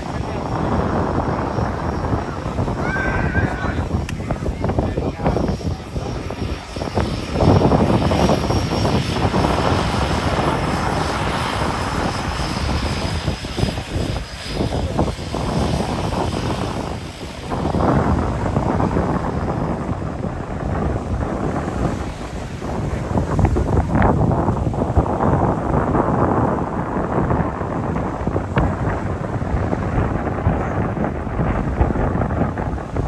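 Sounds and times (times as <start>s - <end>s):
airplane engines rushing: 0.0s - 33.0s.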